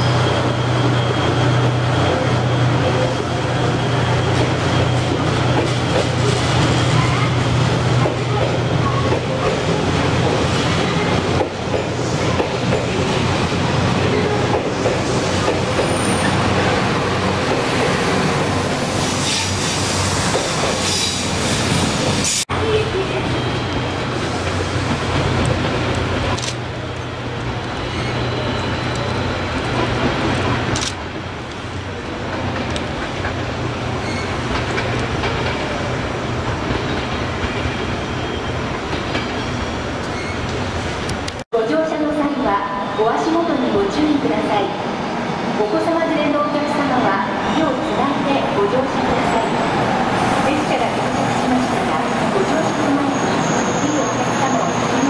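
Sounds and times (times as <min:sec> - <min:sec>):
train rumbling on rails: 0:00.0 - 0:41.4, 0:42.4 - 0:55.0.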